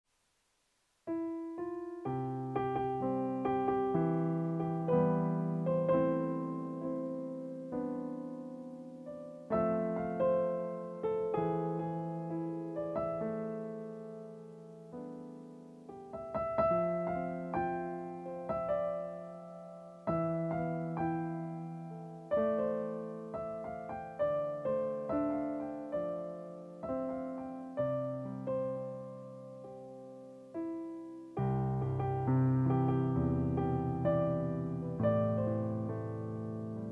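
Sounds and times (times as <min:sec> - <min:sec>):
digital piano playing: 0:01.1 - 0:36.9.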